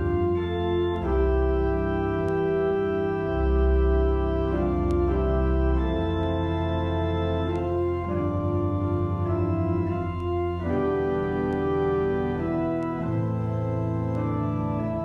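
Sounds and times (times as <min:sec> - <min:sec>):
church organ chords: 0:00.0 - 0:15.0.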